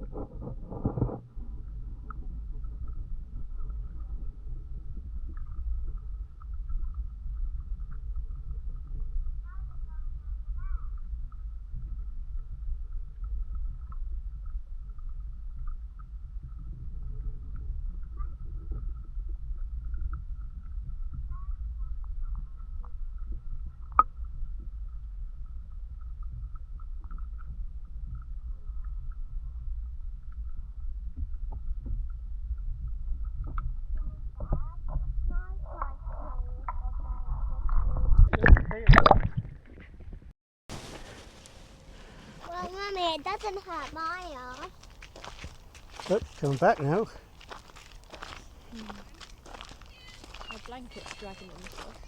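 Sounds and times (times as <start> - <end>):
low uneven microphone rumble: 0.0 - 52.0.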